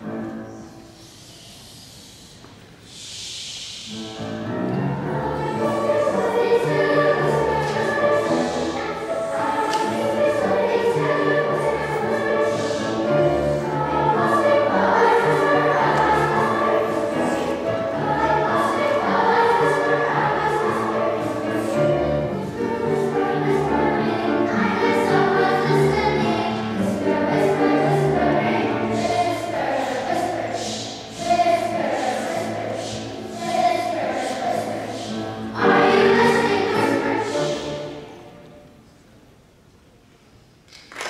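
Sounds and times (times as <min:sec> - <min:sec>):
children's choir singing: 0:00.0 - 0:39.0.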